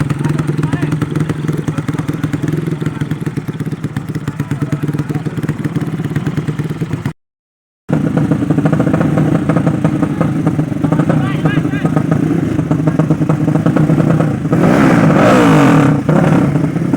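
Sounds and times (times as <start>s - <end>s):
motorcycle engine idling: 0.0s - 7.2s, 7.9s - 15.2s.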